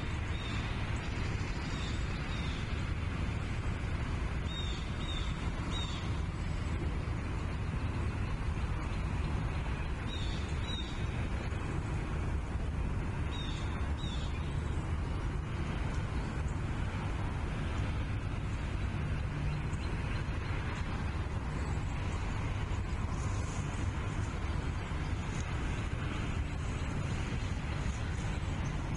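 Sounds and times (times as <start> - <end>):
wind rumbling on microphone: 0.0 - 28.9.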